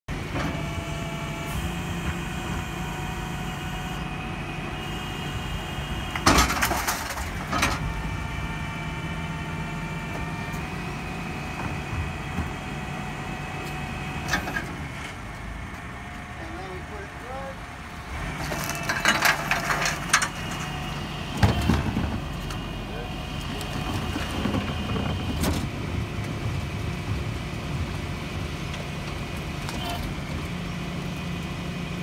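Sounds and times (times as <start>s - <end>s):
hydraulic bin lifter whine: 0.1s - 32.0s.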